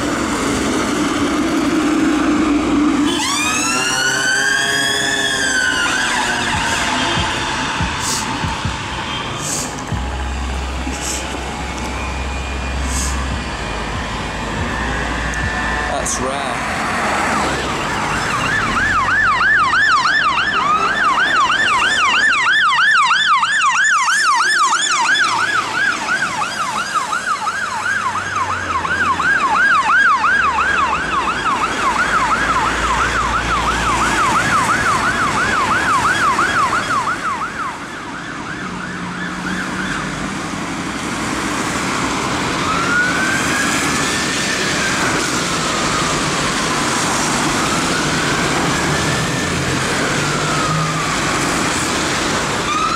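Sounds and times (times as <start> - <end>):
fire engine siren yelping: 0.0 - 52.9
passing traffic: 0.0 - 52.9
slower wailing siren: 0.0 - 52.9.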